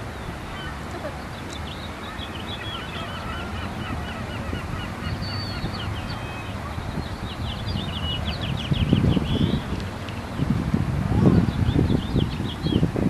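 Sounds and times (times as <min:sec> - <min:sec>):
gulls calling: 0:00.0 - 0:10.5.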